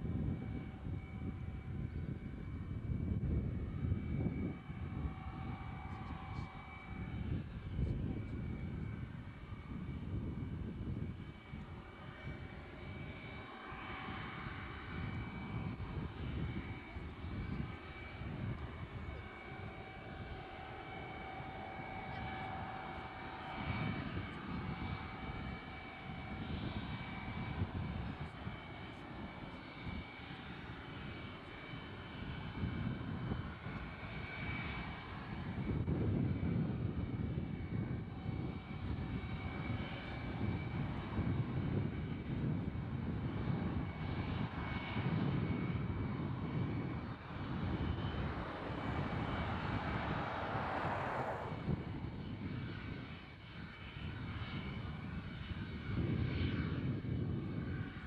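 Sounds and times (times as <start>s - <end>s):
jet engine whining: 0.0s - 58.0s.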